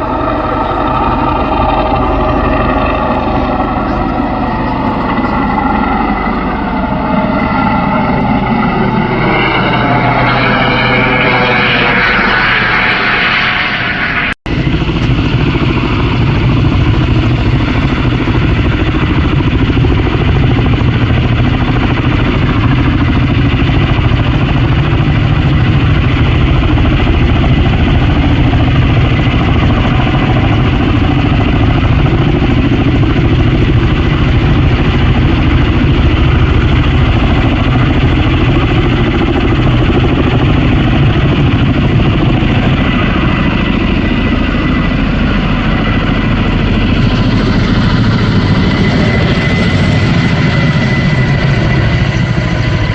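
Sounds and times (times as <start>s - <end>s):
helicopter rotor and turbine: 0.0s - 52.9s.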